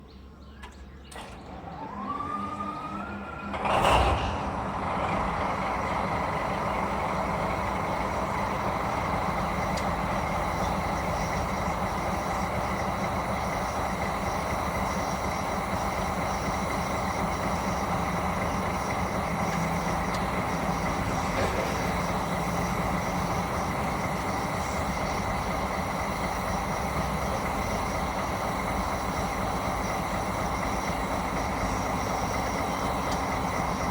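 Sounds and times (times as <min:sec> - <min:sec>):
diesel engine starting and idling: 0:00.0 - 0:33.9.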